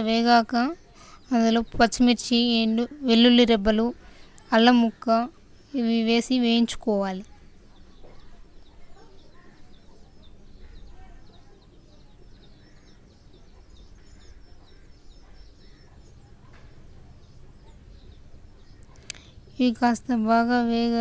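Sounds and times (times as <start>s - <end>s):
faint birds chirping: 0.0s - 21.0s
low background hum: 0.0s - 21.0s.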